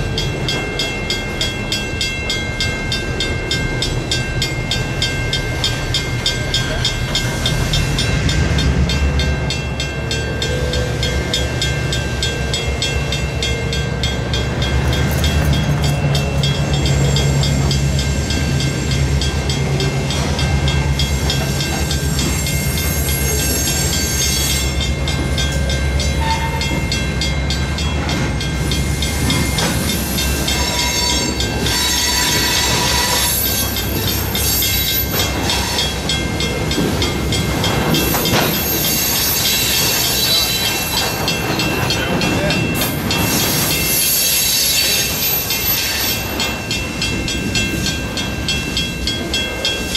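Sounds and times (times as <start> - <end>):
diesel locomotive engines rumbling: 0.0 - 49.9
rail cars rolling: 0.0 - 49.9.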